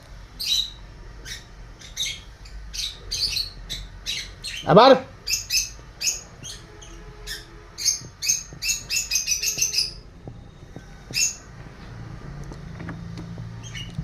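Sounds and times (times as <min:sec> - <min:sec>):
lovebirds chirping: 0:00.3 - 0:14.0.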